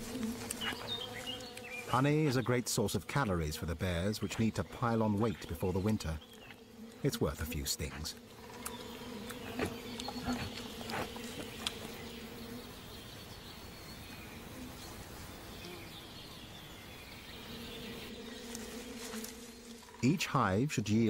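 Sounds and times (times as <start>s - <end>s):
honey bees buzzing: 0.0s - 21.0s.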